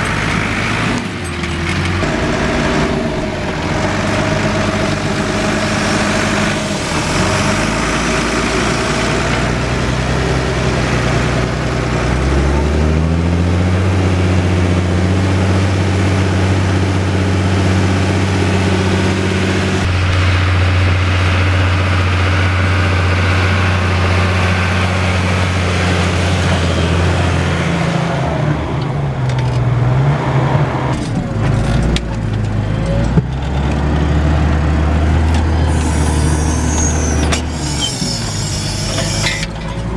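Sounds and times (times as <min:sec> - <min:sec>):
tractor diesel engine working hard: 0:00.0 - 0:39.9.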